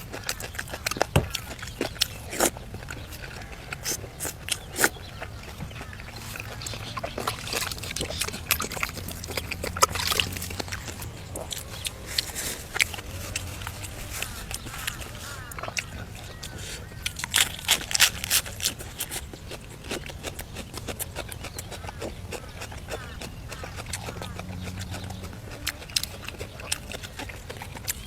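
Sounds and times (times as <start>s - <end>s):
person chewing noisily: 0.0s - 28.0s.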